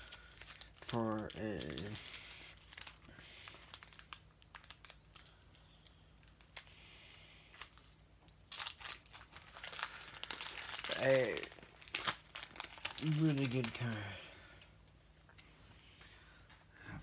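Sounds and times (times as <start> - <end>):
wrapper crinkling and tearing: 0.0 - 14.6.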